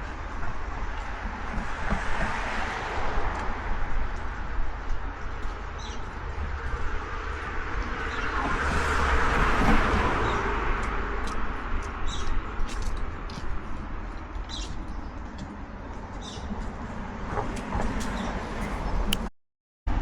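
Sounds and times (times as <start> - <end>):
steady traffic rumble: 0.0 - 19.3
vehicle passing: 0.1 - 19.2.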